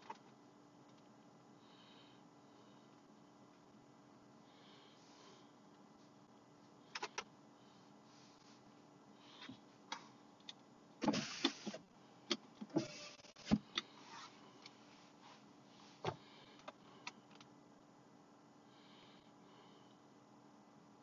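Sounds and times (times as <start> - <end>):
faint steady background noise: 0.0 - 21.0.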